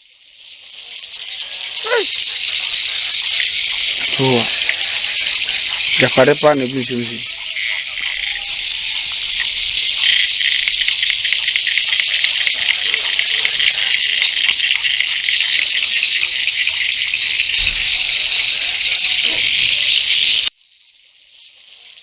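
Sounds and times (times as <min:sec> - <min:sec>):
frogs or insects trilling: 0:00.0 - 0:22.0.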